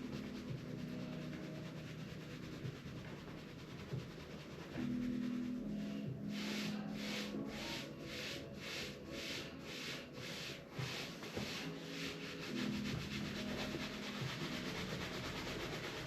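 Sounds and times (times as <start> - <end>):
hands rubbing skin: 0.0 - 16.0.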